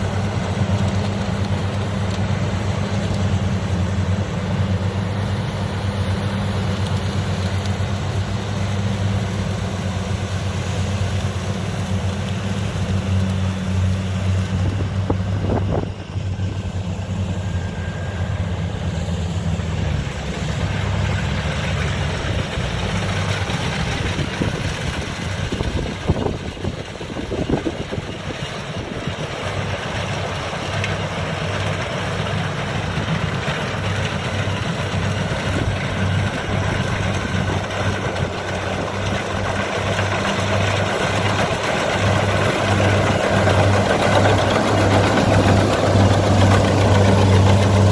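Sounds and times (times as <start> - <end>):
farm machine engine running: 0.0 - 47.9.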